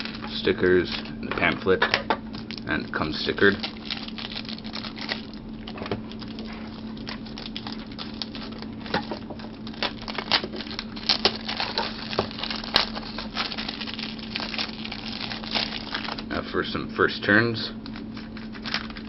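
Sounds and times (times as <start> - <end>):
plastic packaging crinkling: 0.0 - 1.6, 2.3 - 16.4, 17.8 - 19.0
steady low hum: 0.0 - 19.0.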